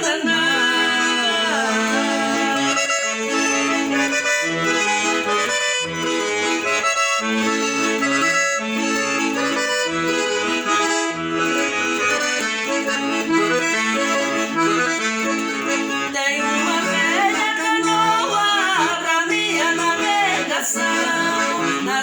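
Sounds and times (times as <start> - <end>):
accordion playing melody: 0.0 - 22.0.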